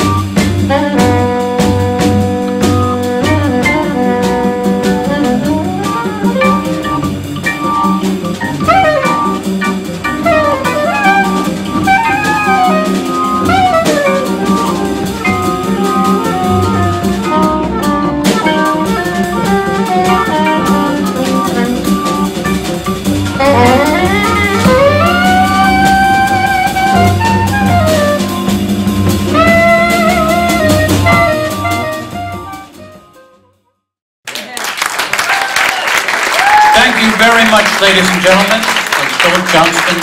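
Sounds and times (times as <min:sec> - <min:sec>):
walking double bass: 0:00.0 - 0:33.3
drum kit with cymbals: 0:00.0 - 0:33.4
soprano saxophone melody: 0:00.0 - 0:33.6.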